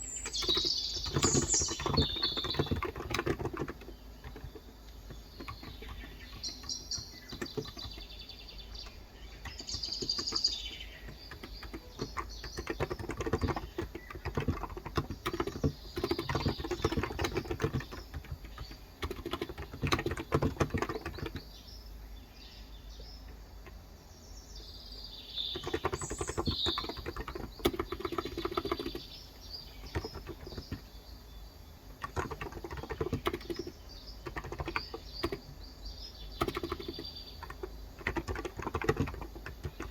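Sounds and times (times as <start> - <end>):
keyboard typing: 0.0 - 21.6, 25.5 - 31.0, 31.9 - 35.7, 36.3 - 39.9
birds chirping: 0.0 - 39.9.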